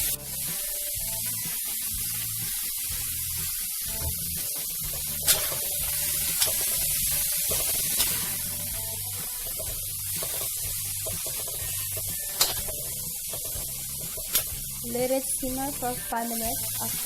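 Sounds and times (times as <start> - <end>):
beans sizzling in hot oil: 0.0 - 17.0.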